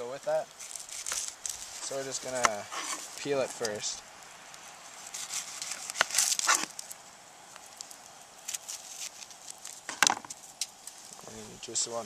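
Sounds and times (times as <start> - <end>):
crisp onion crunching: 0.5 - 3.9, 4.9 - 11.2.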